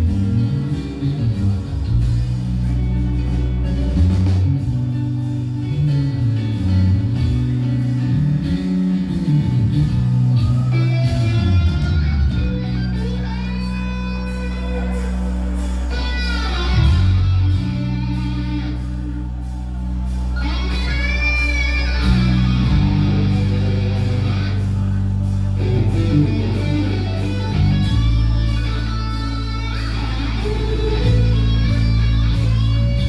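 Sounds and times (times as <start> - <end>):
bass notes: 0.0 - 33.0
live rock band: 0.0 - 33.0
electric guitar solo: 2.5 - 33.0.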